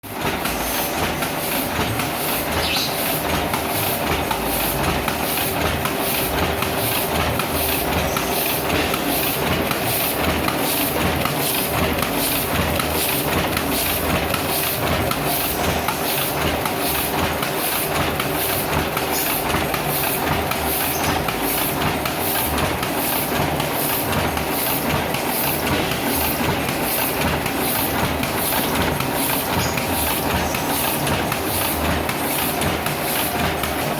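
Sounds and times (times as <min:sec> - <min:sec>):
offset press mechanical clatter: 0:00.0 - 0:33.9.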